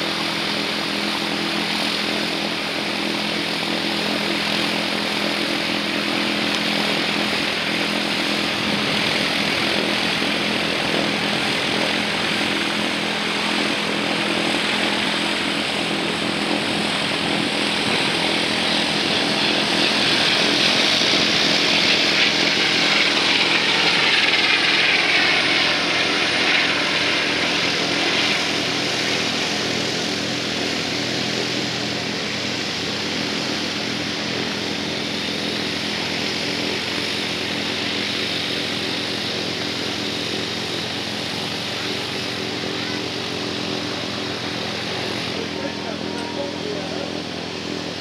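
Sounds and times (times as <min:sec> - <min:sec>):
helicopter flying past: 0:00.0 - 0:48.0.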